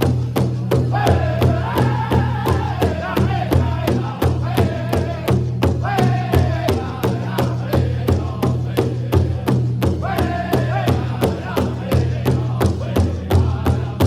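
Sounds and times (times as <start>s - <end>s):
drum beating steadily: 0.0s - 14.0s
group of singers chanting: 0.9s - 14.0s.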